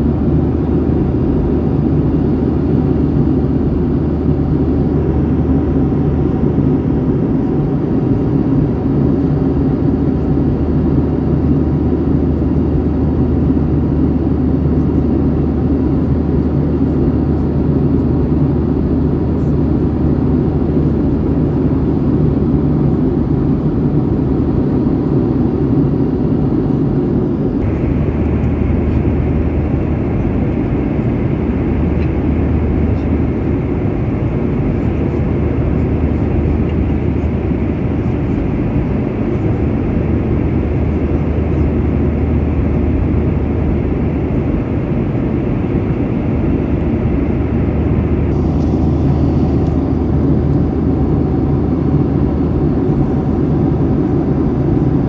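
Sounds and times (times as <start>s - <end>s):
airliner engine drone in cabin: 0.0s - 55.0s.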